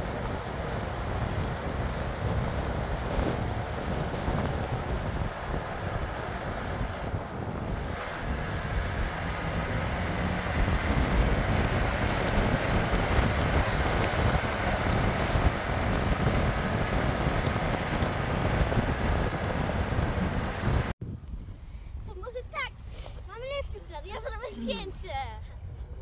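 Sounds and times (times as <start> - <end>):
wind buffeting the microphone: 0.0 - 24.4.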